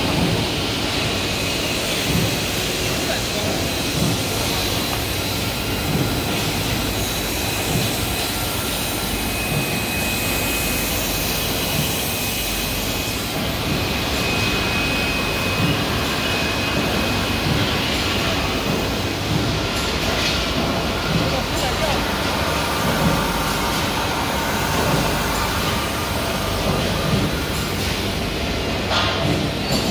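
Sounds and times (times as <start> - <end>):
production line machinery hum: 0.0 - 29.9.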